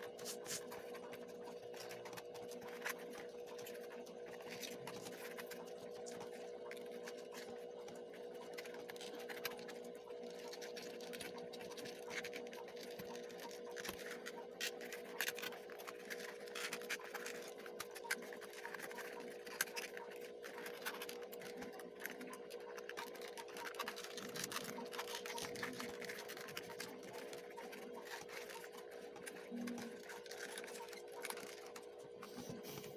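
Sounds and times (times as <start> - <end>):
cardboard pieces scratching and clicking: 0.0 - 32.9
faint steady hum: 0.0 - 32.9.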